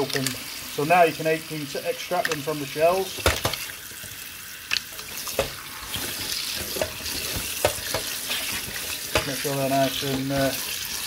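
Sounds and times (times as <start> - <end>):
tap water splashing on shells: 0.0 - 0.4, 2.1 - 10.7.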